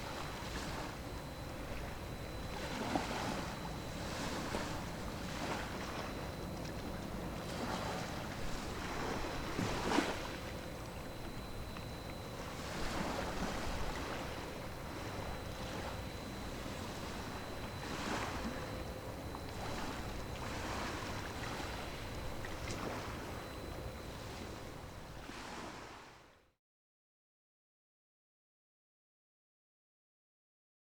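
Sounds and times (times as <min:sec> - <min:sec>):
low hum of passing ships: 0:00.0 - 0:26.2.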